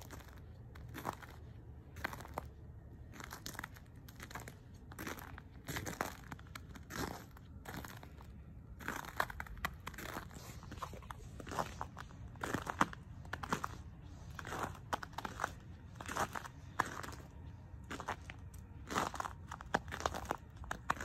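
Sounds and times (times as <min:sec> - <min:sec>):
footsteps crunching on icy snow: 0:00.0 - 0:21.0.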